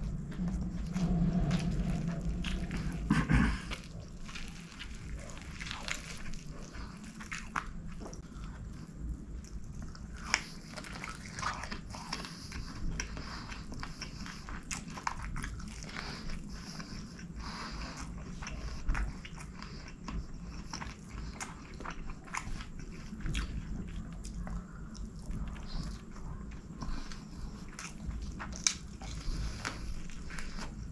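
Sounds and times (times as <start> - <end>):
wet chewing: 0.0 - 30.9.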